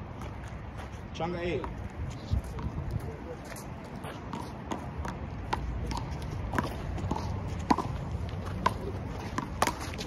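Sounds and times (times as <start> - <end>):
sneakers scuffing on concrete: 0.0 - 10.0.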